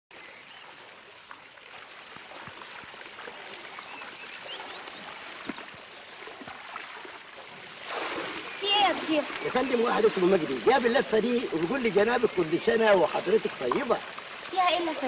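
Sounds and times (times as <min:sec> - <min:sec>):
pool water splashing and trickling: 0:00.1 - 0:15.0.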